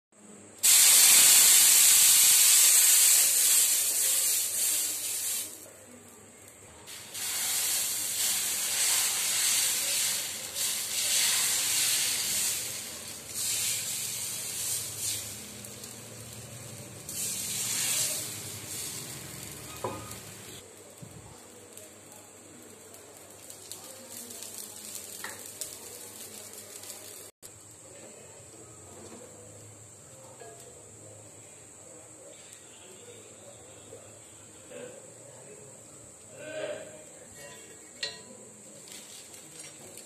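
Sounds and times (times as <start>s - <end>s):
hot griddle hissing and sizzling: 0.6s - 40.0s.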